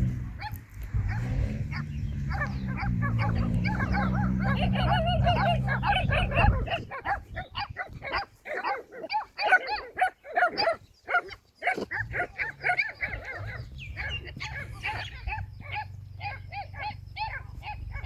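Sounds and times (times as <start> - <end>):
overlapping animal calls: 0.0 - 18.0.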